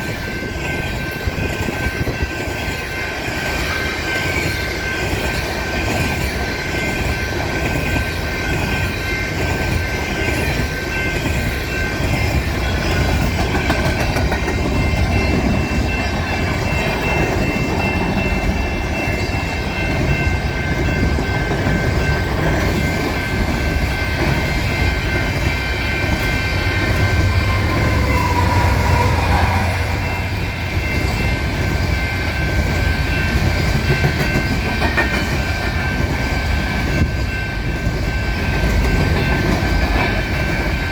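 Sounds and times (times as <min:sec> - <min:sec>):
high-pitched ring: 0:00.0 - 0:34.6
freight train rolling past: 0:00.0 - 0:40.9.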